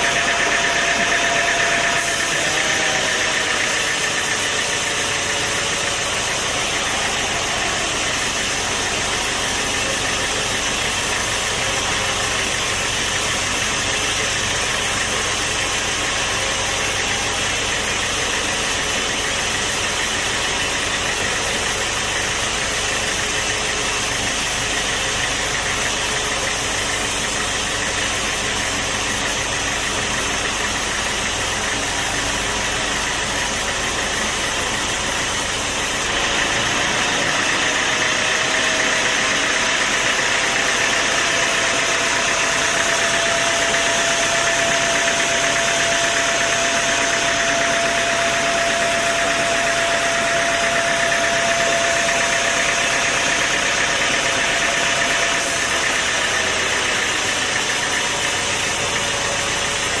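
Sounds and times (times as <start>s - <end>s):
saw whine: 0.0s - 60.0s
sawmill machinery running: 0.0s - 60.0s.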